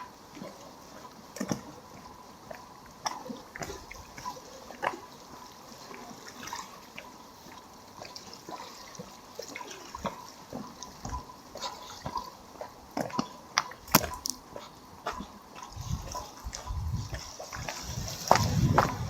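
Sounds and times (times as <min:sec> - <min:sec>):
water dripping and splashing: 0:00.0 - 0:19.0
waves lapping against stones: 0:00.0 - 0:19.0.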